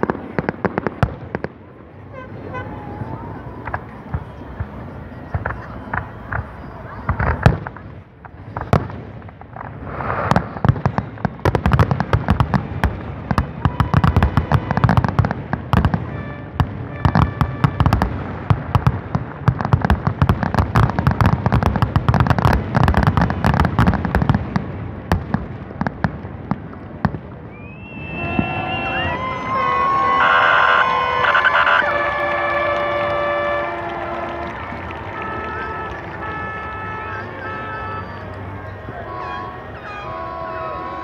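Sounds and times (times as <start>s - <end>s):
fireworks bursts and crackling bangs: 0.0s - 41.0s.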